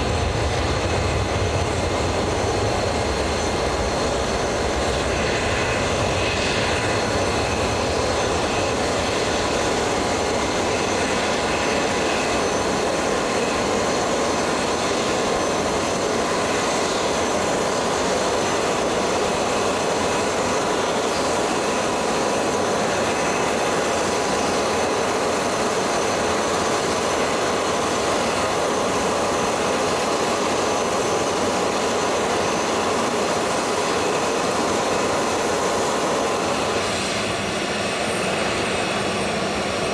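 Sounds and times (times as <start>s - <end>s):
jet engine idling: 0.0s - 39.9s.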